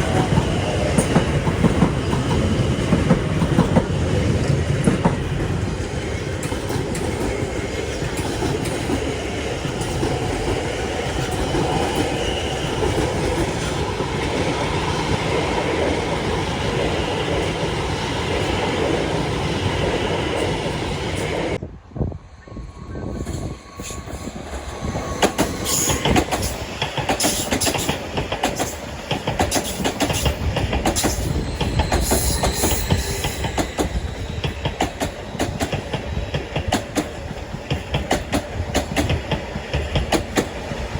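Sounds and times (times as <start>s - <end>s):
train wheels clattering over joints: 0.0s - 15.5s, 23.2s - 40.9s
train wheels rumbling on rails: 0.0s - 40.9s.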